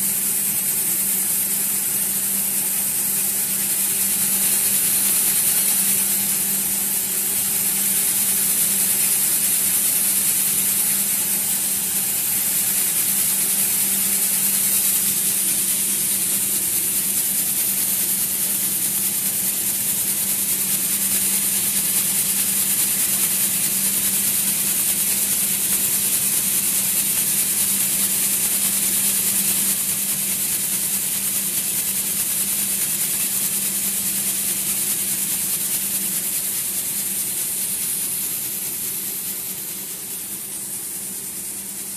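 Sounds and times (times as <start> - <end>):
gravity separator hissing: 0.0 - 41.9.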